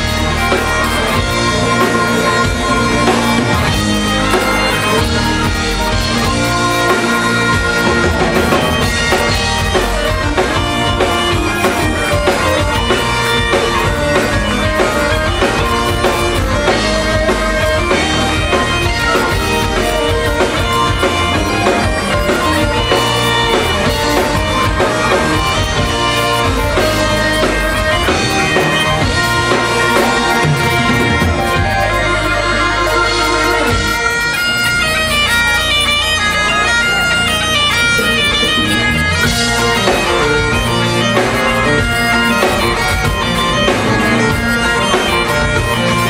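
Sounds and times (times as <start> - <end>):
bagpipes playing: 0.0 - 46.0
drum kit beat: 0.0 - 46.0
electric guitars: 0.0 - 46.0.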